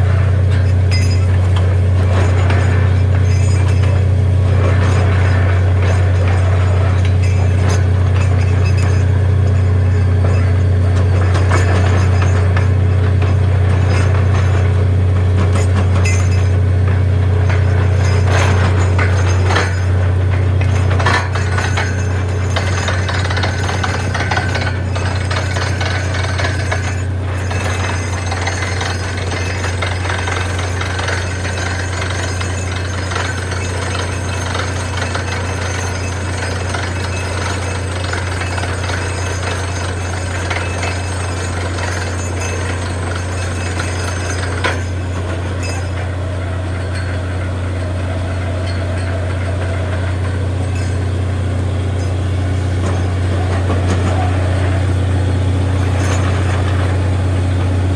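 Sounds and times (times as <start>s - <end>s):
drilling machine drone: 0.0s - 57.9s
hammer drilling rattle: 0.0s - 57.9s.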